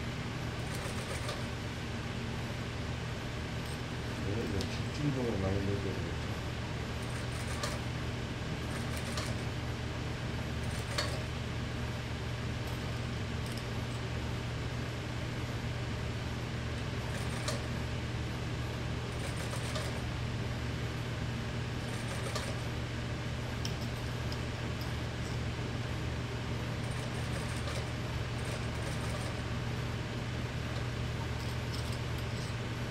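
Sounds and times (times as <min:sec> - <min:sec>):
sewing machine motor hum: 0:00.0 - 0:01.7, 0:02.8 - 0:11.8, 0:12.4 - 0:14.8, 0:15.6 - 0:32.9.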